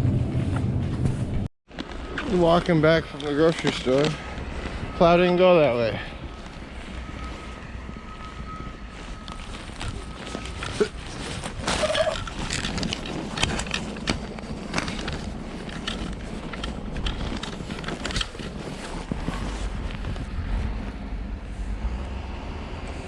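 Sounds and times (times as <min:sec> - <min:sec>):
wind rumbling on microphone: 0:00.0 - 0:23.0
footsteps crunching through snow: 0:00.3 - 0:22.1.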